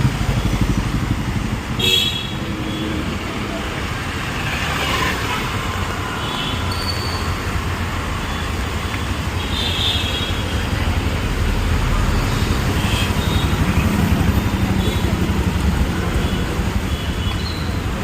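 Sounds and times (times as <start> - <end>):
passing vehicles rumble: 0.0 - 18.0.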